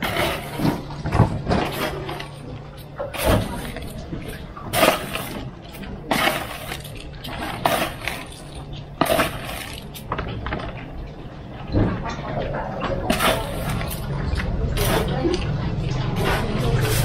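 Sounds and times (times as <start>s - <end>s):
utensils and dishes clinking: 0.0s - 17.0s.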